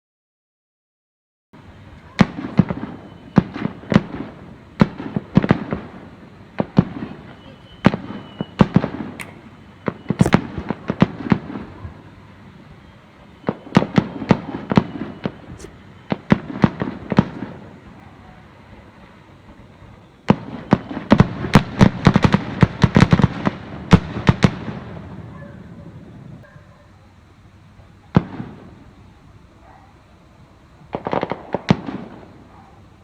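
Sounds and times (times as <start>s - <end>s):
fireworks bangs and crackles: 1.6s - 26.4s, 28.0s - 29.3s, 30.4s - 32.9s.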